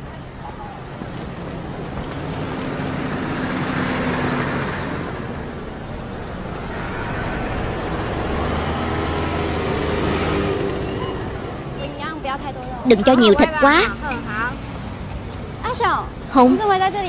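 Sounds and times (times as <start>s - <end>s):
motor vehicles passing: 0.0s - 17.0s.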